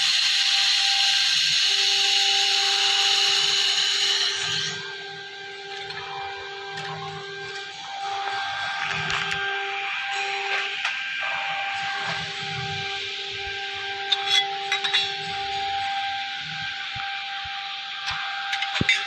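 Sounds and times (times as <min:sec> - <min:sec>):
high-pitched welding hiss: 0:00.0 - 0:19.0
machine humming: 0:00.0 - 0:19.0.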